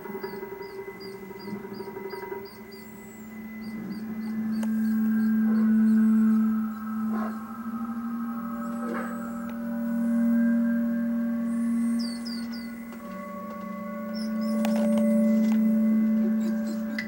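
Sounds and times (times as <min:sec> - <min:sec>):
faint steady tones: 0:00.0 - 0:17.0
low musical drone: 0:00.0 - 0:17.0.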